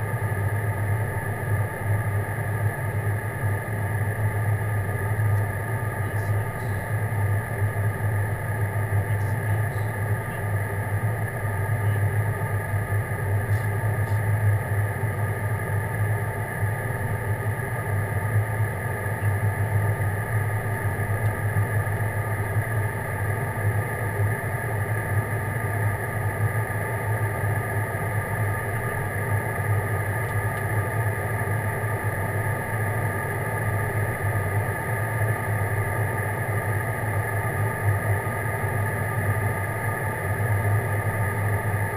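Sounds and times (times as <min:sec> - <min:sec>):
airliner engine drone: 0:00.0 - 0:41.9.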